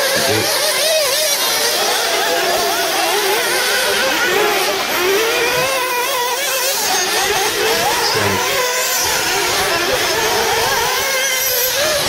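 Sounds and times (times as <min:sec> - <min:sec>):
small engines revving: 0:00.0 - 0:12.0.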